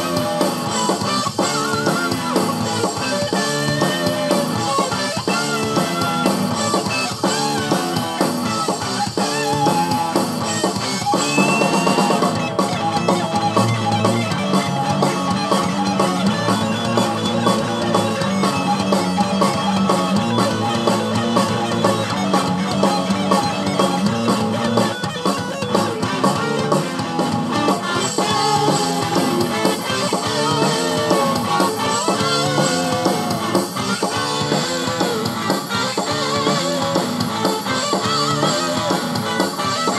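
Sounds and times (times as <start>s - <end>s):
rock music with guitar and drums: 0.0s - 39.9s.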